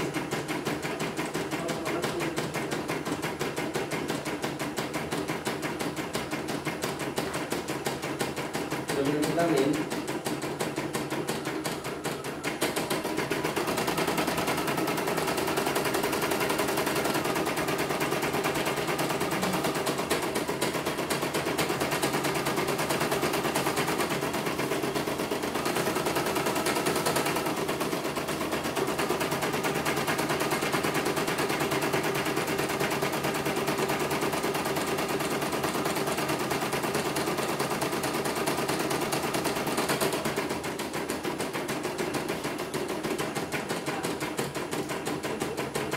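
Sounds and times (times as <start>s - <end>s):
embroidery machine stitching: 0.0s - 45.9s.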